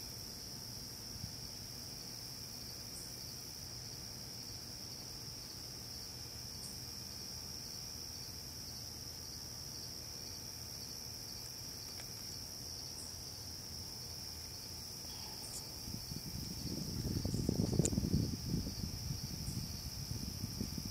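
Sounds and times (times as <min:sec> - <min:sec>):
insects trilling: 0:00.0 - 0:20.9.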